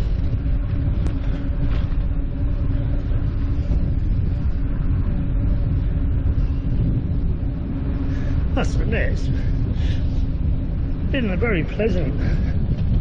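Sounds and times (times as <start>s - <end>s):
bicycle road noise: 0.0s - 13.0s
faint steady hum: 0.0s - 13.0s
wind rumble on microphone: 0.0s - 13.0s.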